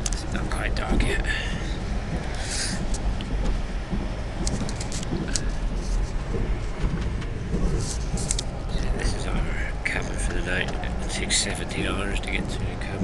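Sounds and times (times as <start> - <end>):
light clicks and rattles: 0.0 - 13.0
train rumbling on rails: 0.0 - 13.0.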